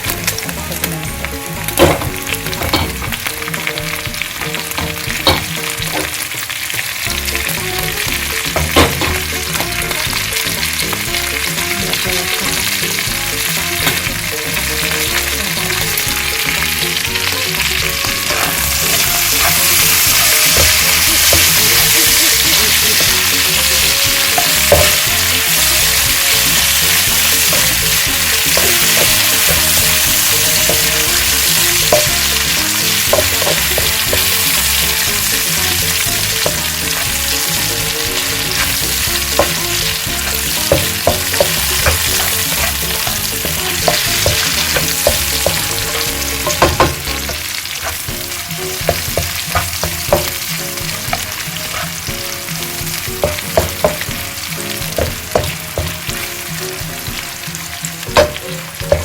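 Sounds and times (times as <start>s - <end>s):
food sizzling in hot oil: 0.0s - 59.0s
utensil scraping and knocking pan: 1.7s - 6.3s, 8.1s - 56.3s, 58.0s - 59.0s.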